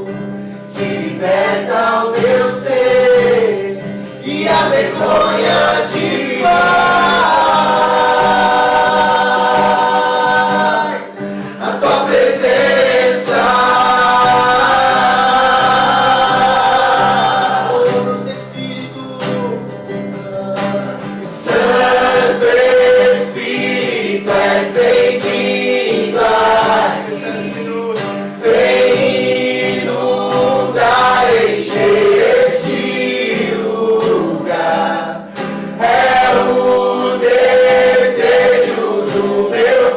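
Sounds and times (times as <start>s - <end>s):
group singing worship song: 0.0s - 19.8s, 20.6s - 39.9s
acoustic guitar: 0.0s - 39.9s.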